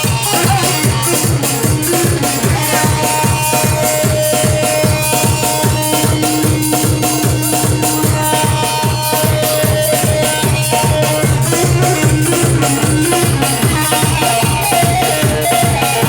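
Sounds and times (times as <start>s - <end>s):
folk melody line: 0.0s - 16.0s
steady drum beat: 0.0s - 16.0s.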